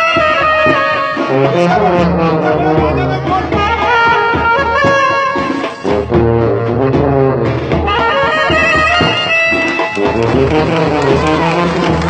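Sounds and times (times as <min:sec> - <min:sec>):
brass band playing: 0:00.0 - 0:12.0
drums beating: 0:00.0 - 0:12.0.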